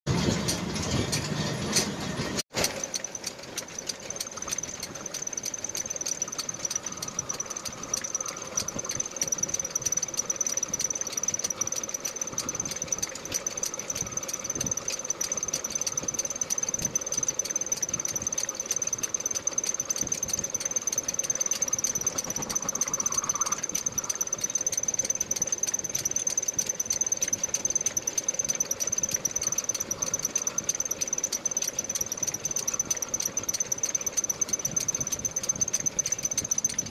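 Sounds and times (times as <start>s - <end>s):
metal lathe squealing: 0.1s - 36.9s
fast even ticking: 2.6s - 36.9s.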